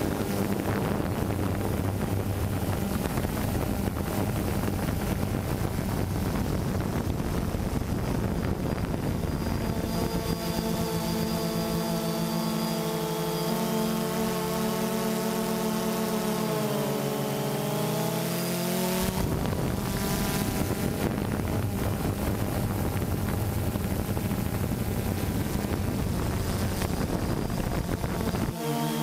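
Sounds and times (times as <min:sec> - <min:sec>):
drone propellers whining: 0:00.0 - 0:29.0
rough rushing noise: 0:00.0 - 0:29.0.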